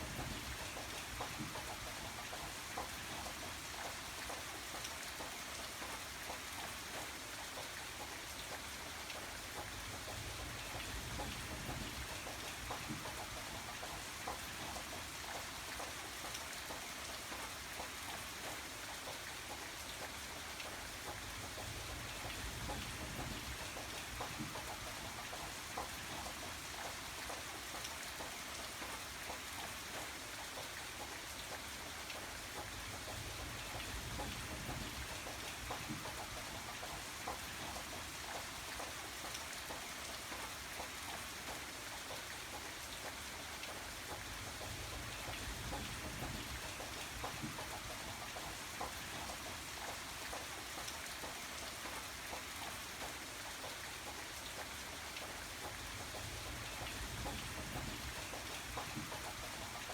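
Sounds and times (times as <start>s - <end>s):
rain falling on a surface: 0.0s - 59.9s
raindrops ticking: 0.0s - 59.9s.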